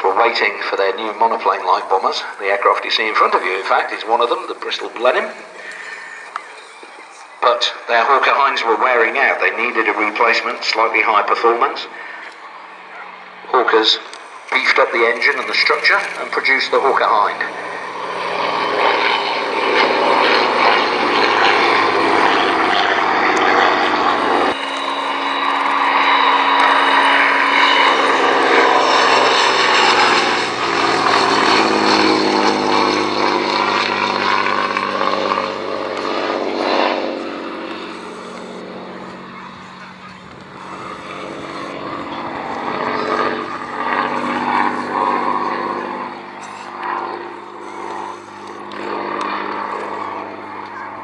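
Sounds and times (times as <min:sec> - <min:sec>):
propeller aircraft flying past: 0:00.0 - 0:51.0.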